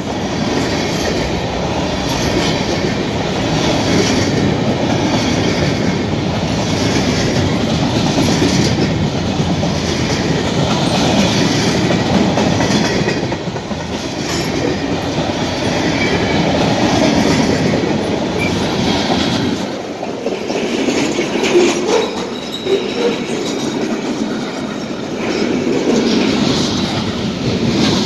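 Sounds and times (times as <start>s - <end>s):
steel wheels rumbling on rails: 0.0s - 28.0s.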